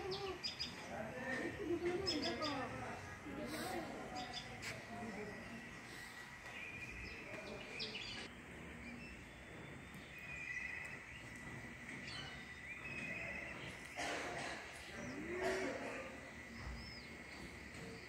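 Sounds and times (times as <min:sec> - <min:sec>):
small birds trilling: 0:00.0 - 0:18.0.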